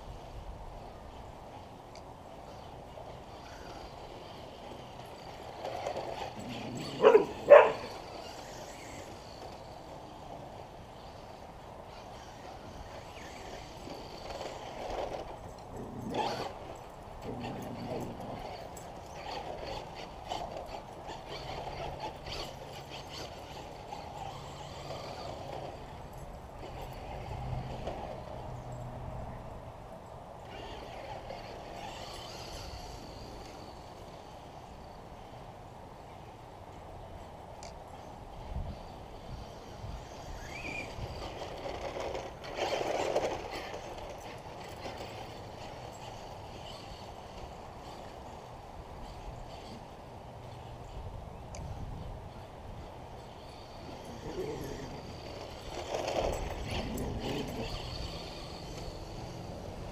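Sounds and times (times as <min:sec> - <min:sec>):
toy car motor whining and rattling: 0:02.3 - 0:28.5, 0:30.4 - 0:35.4, 0:37.6 - 0:59.9.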